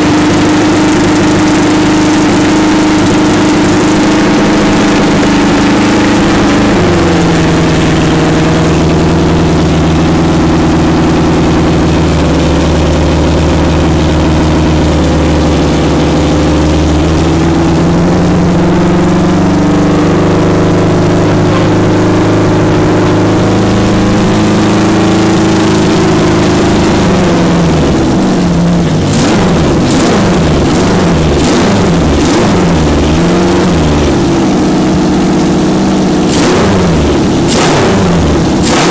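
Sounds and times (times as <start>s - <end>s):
motorcycle engine running: 0.0s - 38.9s
motorcycle throttle blips: 0.0s - 38.9s.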